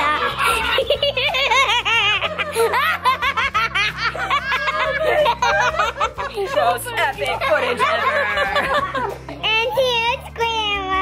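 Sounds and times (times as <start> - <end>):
girl laughing: 0.0 - 9.4.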